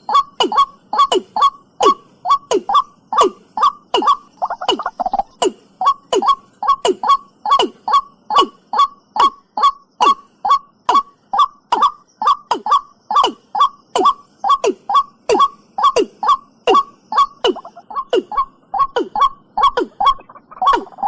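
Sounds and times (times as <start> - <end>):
bird calling hollow falling notes: 0.0 - 21.0.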